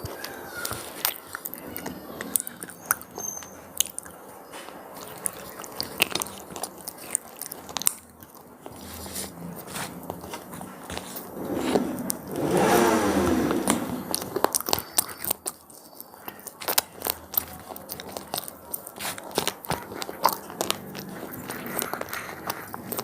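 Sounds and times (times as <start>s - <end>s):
snack puffs crunching: 0.0s - 23.0s.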